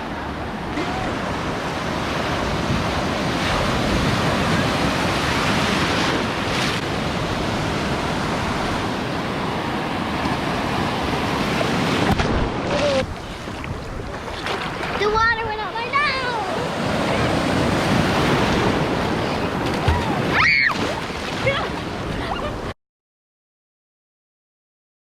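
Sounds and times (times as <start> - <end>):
ocean waves breaking: 0.0 - 22.7.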